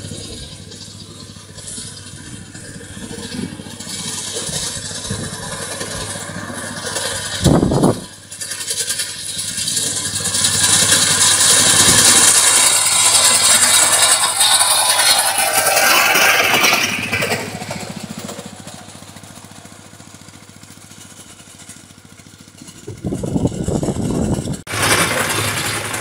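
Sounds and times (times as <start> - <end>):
mowing machine engine running: 0.0 - 26.0.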